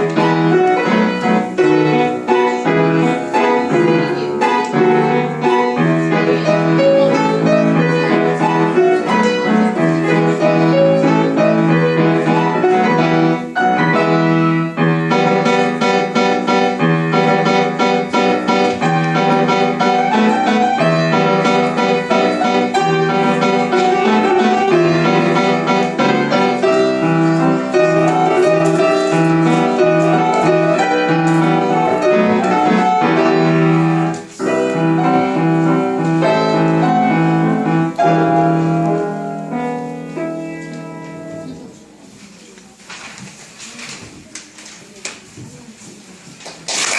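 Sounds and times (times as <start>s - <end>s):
piano duet: 0.0s - 46.9s.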